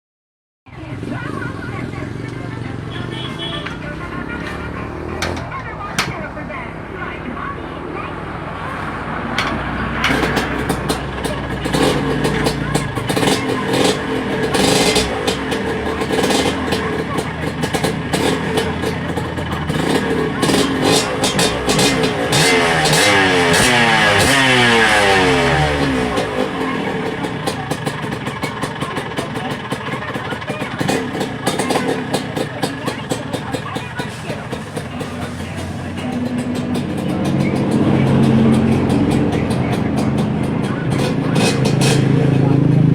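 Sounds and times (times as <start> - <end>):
motorcycle engine revving: 0.7 - 42.9.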